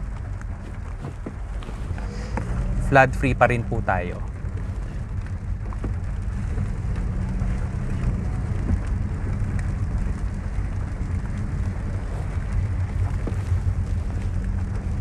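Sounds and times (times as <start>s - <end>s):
car engine hum: 0.0s - 15.0s
rain hitting car: 0.0s - 15.0s
tyre noise on wet road: 0.0s - 15.0s.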